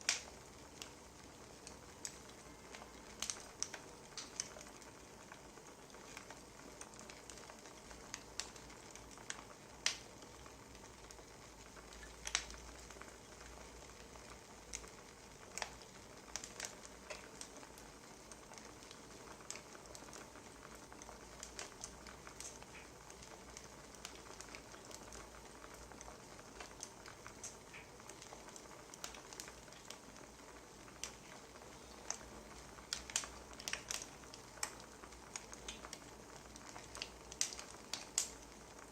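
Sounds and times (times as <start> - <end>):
soft steady hiss: 0.0 - 38.9
wood fire crackling and popping: 0.0 - 38.9.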